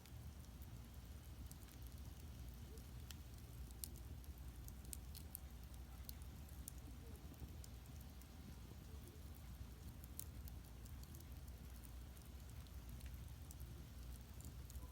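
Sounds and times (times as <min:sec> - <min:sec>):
firewood crackling and popping: 0:00.0 - 0:14.9
steady low fire rumble: 0:00.0 - 0:14.9.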